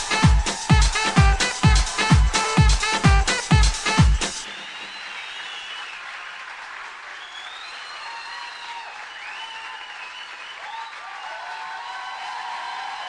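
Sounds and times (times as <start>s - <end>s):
crowd applauding: 0.0s - 13.0s
people cheering: 0.0s - 13.0s.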